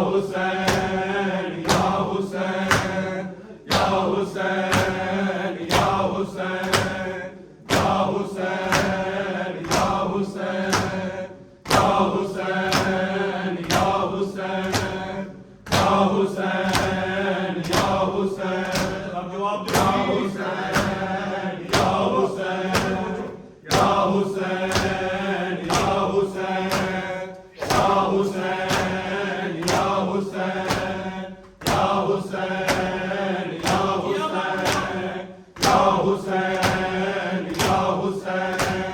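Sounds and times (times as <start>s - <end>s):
crowd chanting a lament: 0.0s - 38.9s
hands slapping chest: 0.4s - 38.9s.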